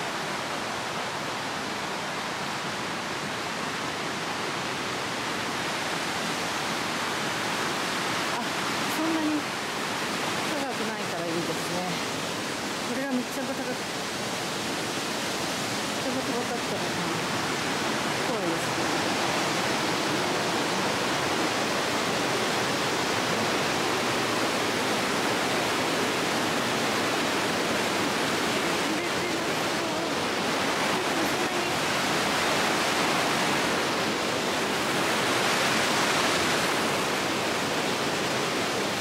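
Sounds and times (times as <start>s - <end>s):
river rushing: 0.0s - 39.0s.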